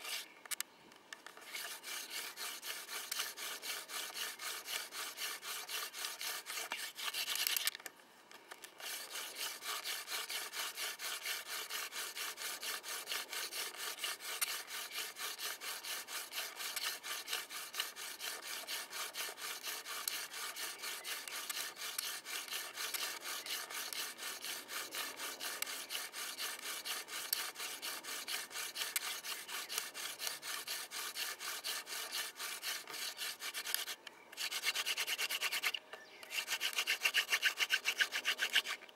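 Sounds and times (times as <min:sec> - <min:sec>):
wooden spindle rasping in socket: 0:01.2 - 0:07.8, 0:08.4 - 0:38.9.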